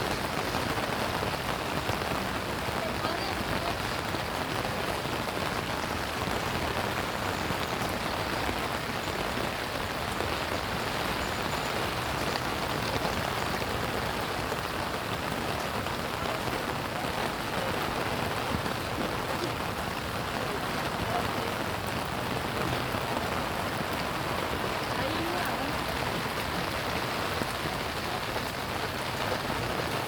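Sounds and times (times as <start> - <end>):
rain on hard surfaces: 0.0 - 30.0.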